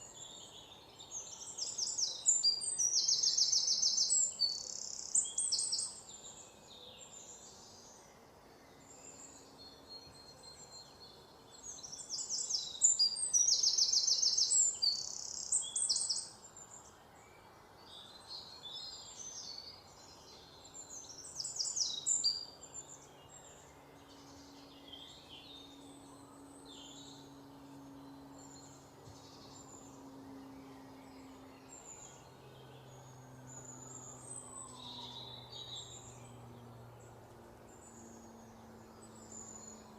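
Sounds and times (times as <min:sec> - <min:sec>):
loud rapid trilled birdsong: 0:00.0 - 0:16.9, 0:18.0 - 0:39.9
faint low steady hum: 0:00.0 - 0:39.9
songbirds singing and calling: 0:00.0 - 0:39.9.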